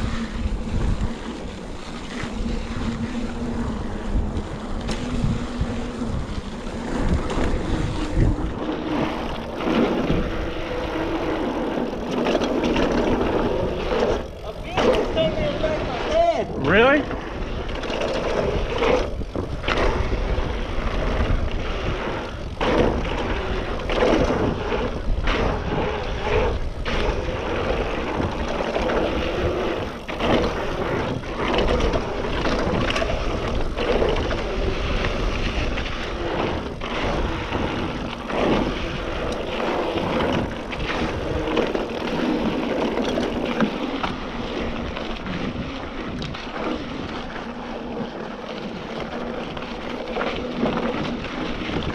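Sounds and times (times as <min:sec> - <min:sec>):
bike rattling and knocking: 0:00.0 - 0:51.9
tyres rumbling over dirt: 0:00.0 - 0:51.9
wind on microphone: 0:00.0 - 0:51.9.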